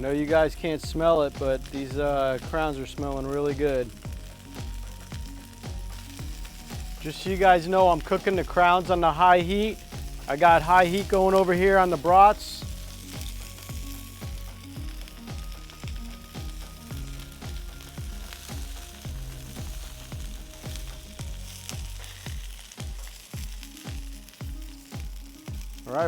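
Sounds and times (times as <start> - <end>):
background music with bass: 0.0 - 26.0
food sizzling on griddle: 0.0 - 26.0.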